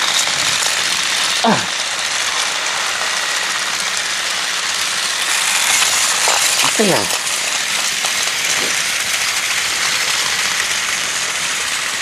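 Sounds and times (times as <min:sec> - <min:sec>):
toy train motors whirring: 0:00.0 - 0:12.0
wheels rattling on plastic track: 0:00.0 - 0:12.0.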